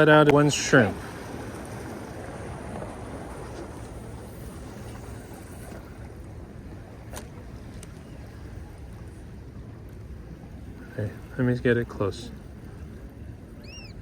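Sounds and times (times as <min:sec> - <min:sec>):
ocean surf: 0:00.0 - 0:14.0
wind: 0:00.0 - 0:14.0.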